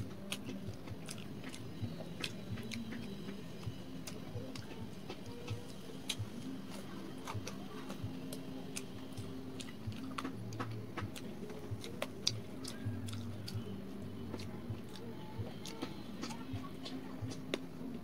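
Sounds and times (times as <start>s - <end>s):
person chewing and biting food: 0.0s - 17.7s
steady low hum: 0.0s - 18.0s.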